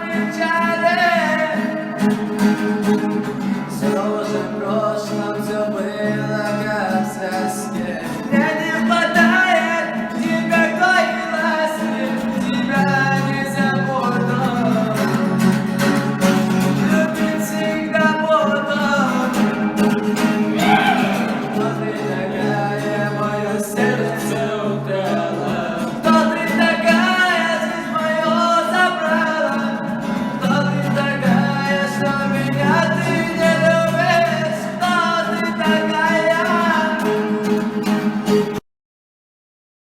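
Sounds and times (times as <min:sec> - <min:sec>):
song with instrumental accompaniment: 0:00.0 - 0:38.6.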